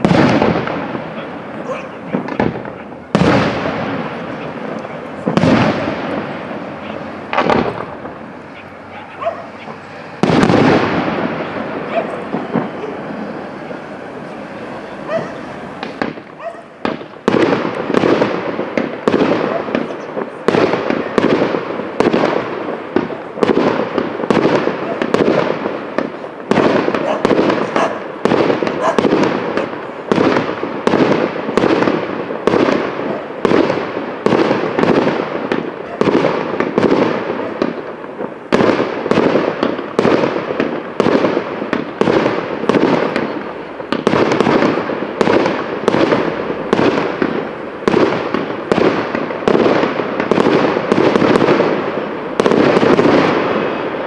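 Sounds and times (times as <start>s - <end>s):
fireworks banging: 0.0s - 54.0s.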